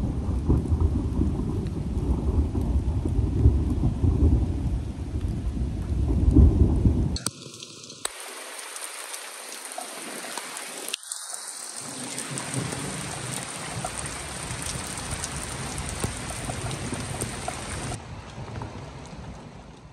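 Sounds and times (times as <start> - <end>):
thunder rumbling: 0.0 - 8.0, 11.5 - 19.9
heavy rain: 0.0 - 19.9.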